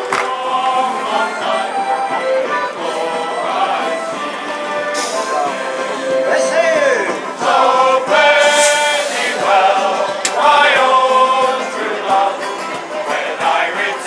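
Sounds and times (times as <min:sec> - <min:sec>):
men singing a sea shanty: 0:00.0 - 0:14.0.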